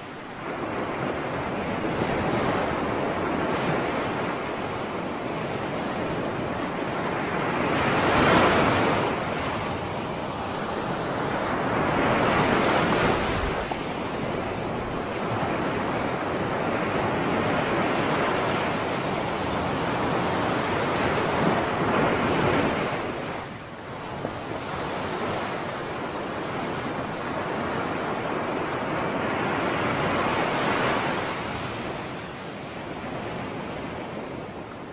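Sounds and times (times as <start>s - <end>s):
waves washing onto shore: 0.0s - 34.9s.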